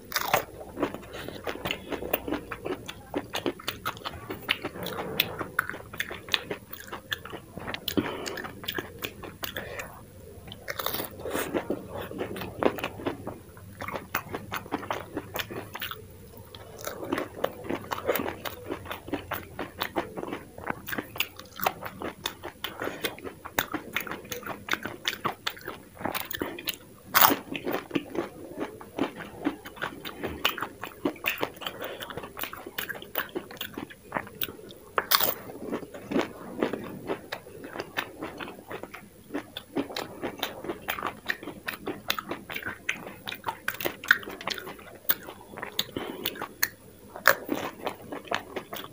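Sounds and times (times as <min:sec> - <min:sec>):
wet chewing: 0:00.0 - 0:48.9.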